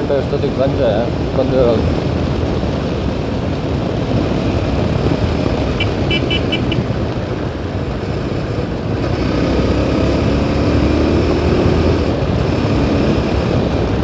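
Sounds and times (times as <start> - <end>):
motorcycle engine drone: 0.0 - 14.0
wind and road noise: 0.0 - 14.0.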